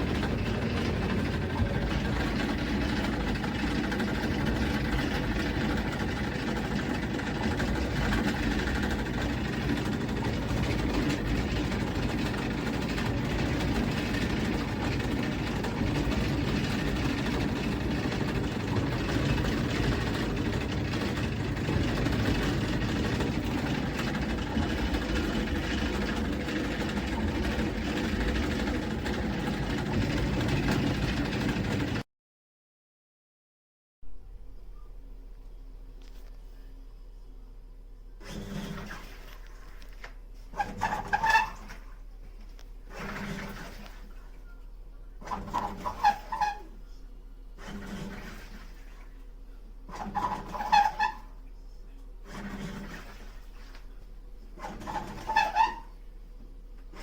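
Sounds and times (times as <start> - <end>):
washing machine running: 0.0 - 32.1, 34.1 - 57.0.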